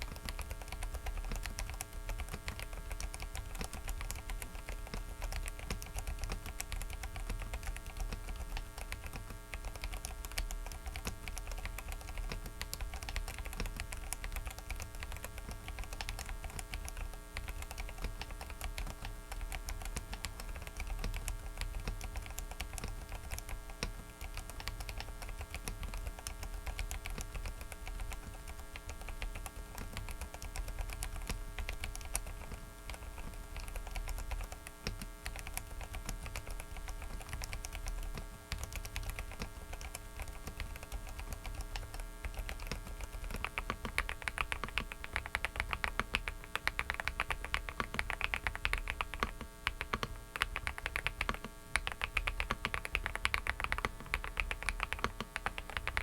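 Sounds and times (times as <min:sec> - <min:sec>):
electrical hum and buzz: 0:00.0 - 0:56.0
mechanical keyboard typing: 0:00.0 - 0:56.0.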